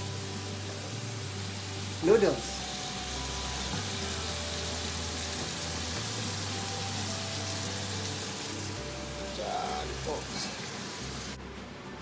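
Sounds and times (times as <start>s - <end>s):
food sizzling in a pan: 0.0s - 11.4s
background music with bass: 0.0s - 12.0s.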